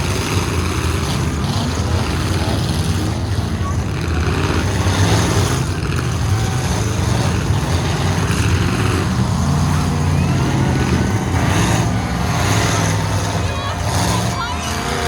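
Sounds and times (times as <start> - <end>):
pickup truck engines running loudly: 0.0 - 15.0.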